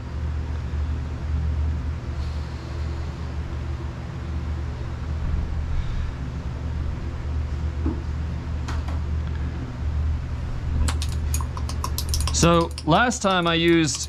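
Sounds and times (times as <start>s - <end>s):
extraction fan rumbling: 0.0s - 14.0s.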